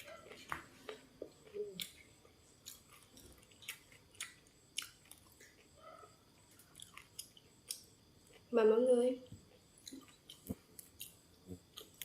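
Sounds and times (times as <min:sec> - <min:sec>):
person chewing crunchy food: 0:00.0 - 0:08.5, 0:09.4 - 0:12.0.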